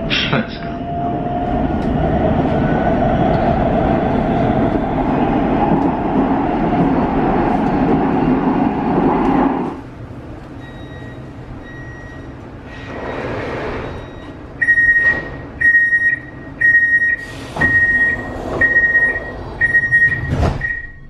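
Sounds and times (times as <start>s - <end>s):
metro train rumble with whine: 0.0s - 21.0s.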